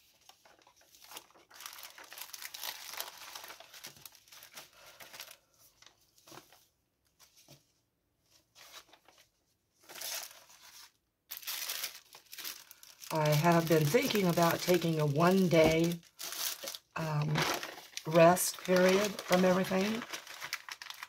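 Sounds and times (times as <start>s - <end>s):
plastic packaging crinkling: 0.0s - 6.5s, 9.8s - 21.0s.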